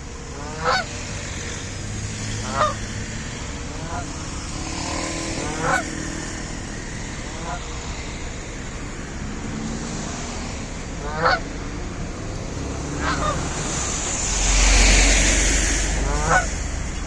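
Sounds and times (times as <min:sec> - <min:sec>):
geese honking: 0:00.0 - 0:08.8, 0:10.1 - 0:11.6, 0:12.9 - 0:17.0
low rushing noise: 0:00.0 - 0:17.0.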